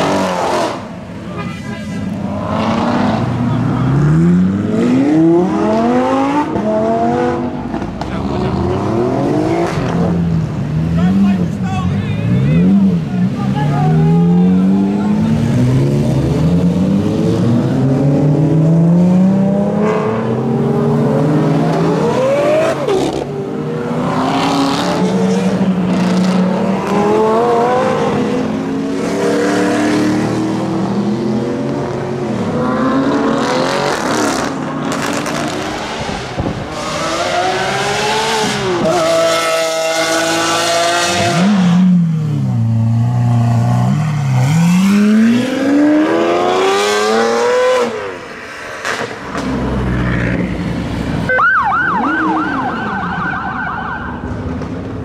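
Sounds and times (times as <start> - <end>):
supercar engines revving: 0.0 - 53.4.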